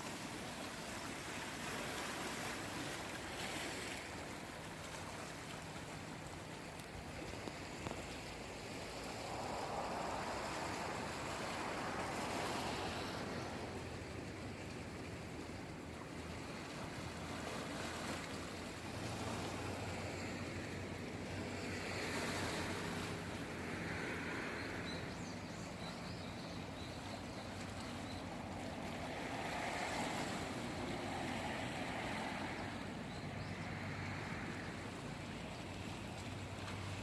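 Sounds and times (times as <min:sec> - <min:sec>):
sea waves washing in: 0:00.0 - 0:37.0.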